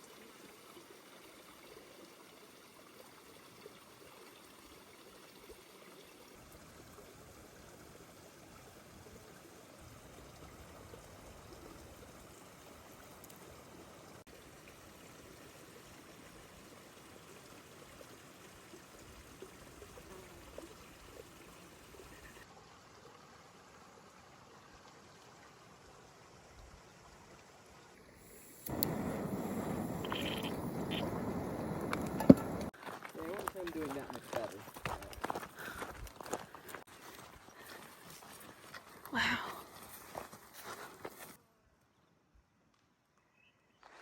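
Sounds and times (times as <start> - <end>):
faint flowing water: 0.0 - 41.4.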